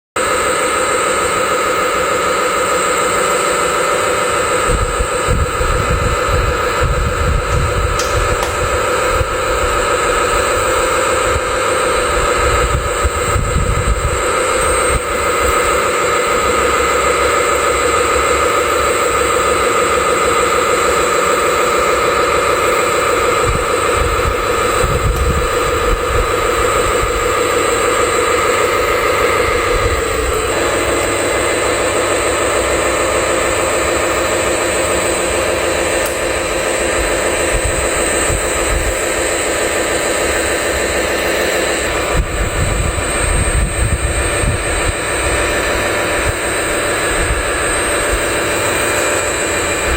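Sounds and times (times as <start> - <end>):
large engine running: 0.2 - 49.9.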